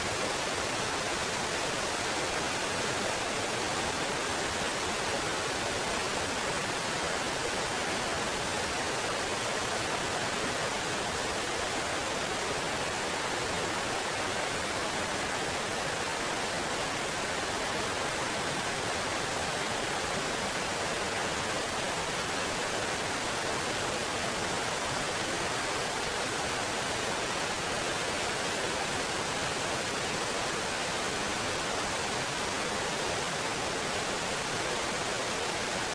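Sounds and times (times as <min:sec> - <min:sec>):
water cascading over rocks: 0:00.0 - 0:35.9.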